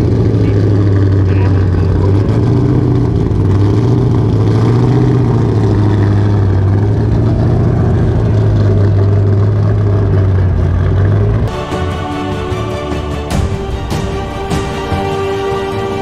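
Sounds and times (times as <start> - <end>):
engine low drone: 0.0 - 16.0.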